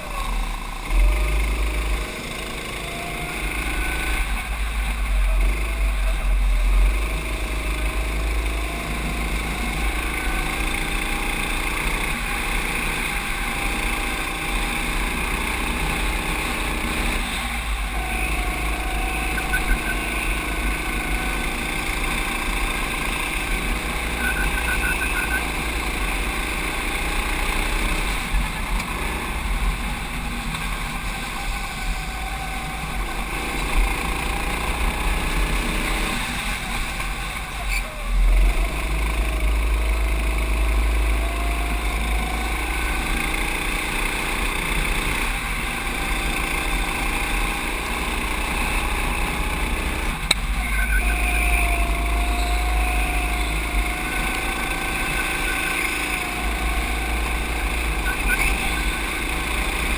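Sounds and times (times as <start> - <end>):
go-kart engine running hard: 0.0 - 59.9
steady rushing noise: 0.0 - 59.9.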